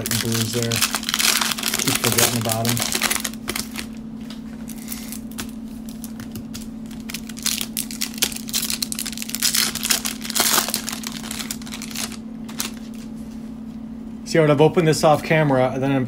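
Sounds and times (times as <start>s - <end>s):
wrappers crinkling and tearing: 0.0s - 13.1s
steady low hum: 0.0s - 16.0s.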